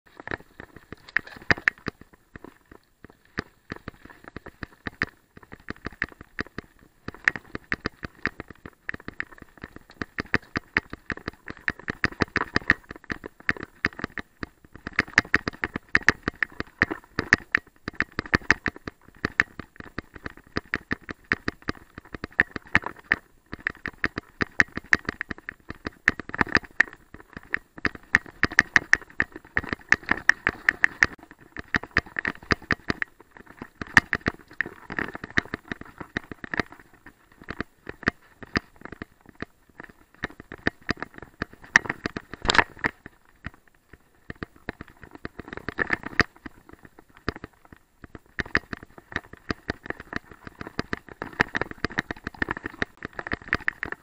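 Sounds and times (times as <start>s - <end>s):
bike rattling over gravel: 0.1s - 43.9s.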